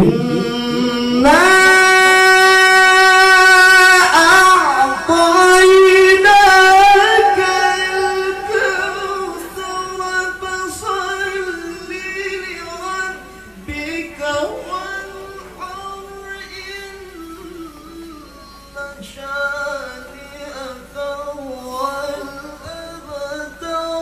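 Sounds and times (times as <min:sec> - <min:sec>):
man reciting melodically: 0:00.0 - 0:24.0.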